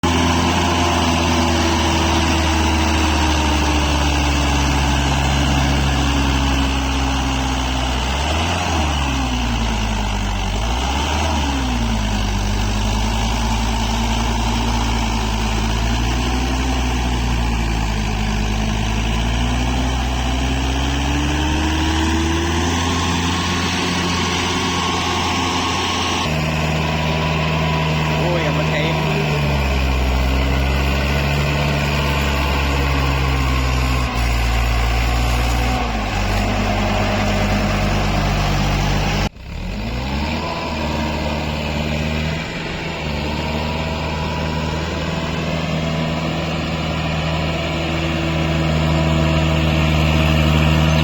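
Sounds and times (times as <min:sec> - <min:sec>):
tractor engine revving: 0:00.0 - 0:51.0.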